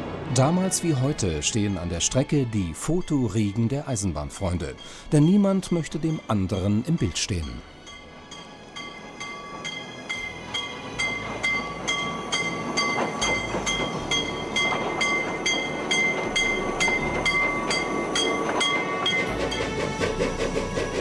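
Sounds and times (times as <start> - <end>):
steam locomotive passing: 0.0 - 21.0.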